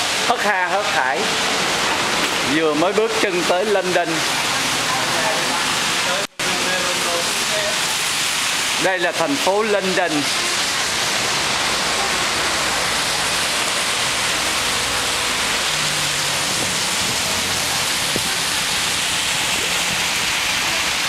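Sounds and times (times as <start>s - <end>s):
heavy rain on pavement: 0.0s - 21.0s
traffic on wet street: 0.0s - 21.0s.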